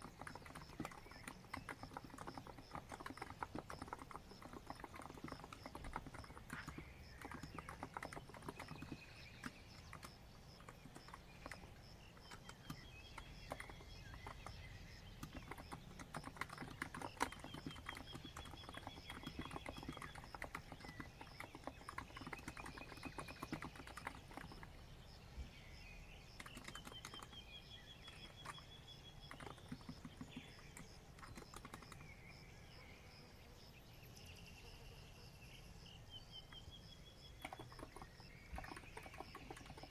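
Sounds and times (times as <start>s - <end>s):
keyboard typing: 0.0s - 24.8s, 26.4s - 32.2s, 37.4s - 39.9s
birds trilling: 0.0s - 32.9s, 36.3s - 39.9s.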